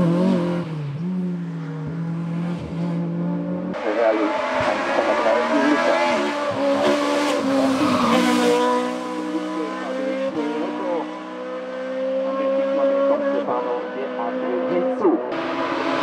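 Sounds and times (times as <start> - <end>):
race car engine at high revs: 0.0 - 16.0.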